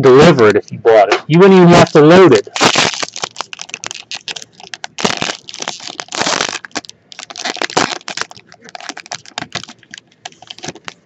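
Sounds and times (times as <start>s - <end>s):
foil wrapper crinkling: 1.7s - 11.0s.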